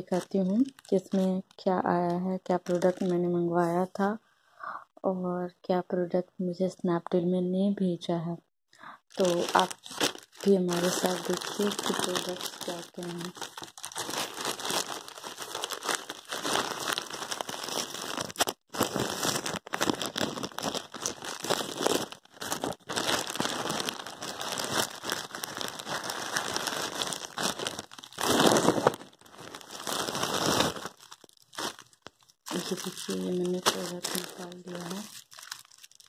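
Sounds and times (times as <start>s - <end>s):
plastic packaging crinkling: 0.0s - 1.4s, 2.0s - 3.4s, 9.1s - 36.0s.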